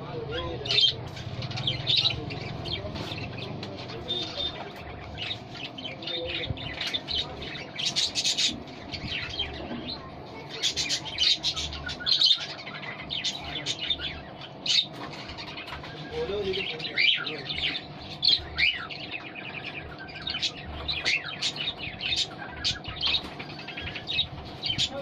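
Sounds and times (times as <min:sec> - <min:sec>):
budgerigars chirping: 0:00.1 - 0:25.0.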